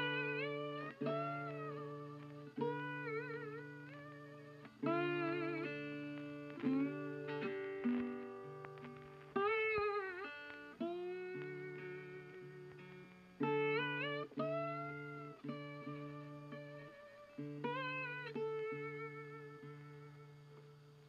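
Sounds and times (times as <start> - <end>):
slow plucked guitar melody: 0.0 - 21.0.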